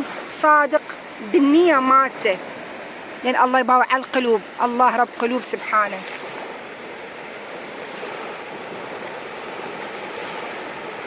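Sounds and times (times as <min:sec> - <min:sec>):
sea surf rushing: 0:00.0 - 0:11.0.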